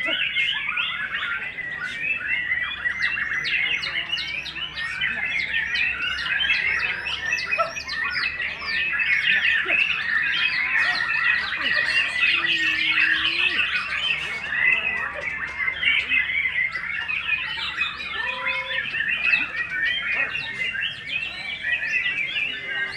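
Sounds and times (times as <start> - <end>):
songbirds chirping: 0.0 - 22.9.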